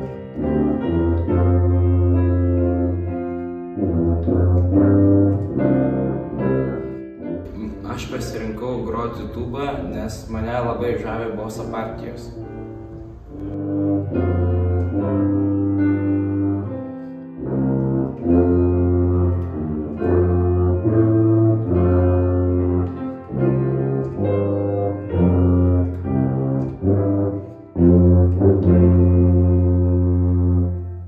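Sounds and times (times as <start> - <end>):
tuba playing melody: 0.0 - 31.0.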